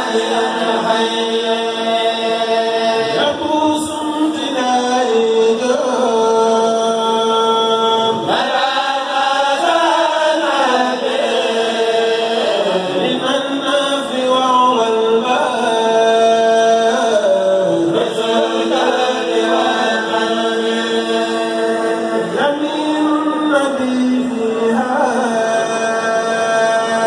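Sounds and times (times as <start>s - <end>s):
men chanting into microphones: 0.0s - 27.0s.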